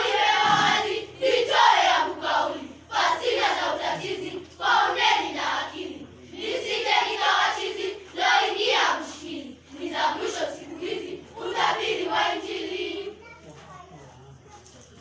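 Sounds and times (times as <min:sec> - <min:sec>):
children chanting in unison: 0:00.0 - 0:13.2.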